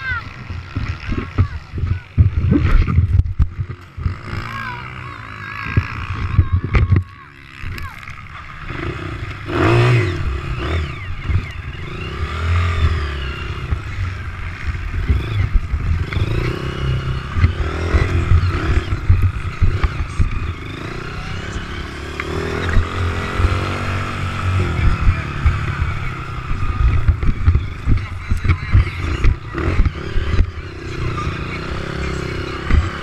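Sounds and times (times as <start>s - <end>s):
motorcycle engines revving and passing: 0.0s - 33.0s.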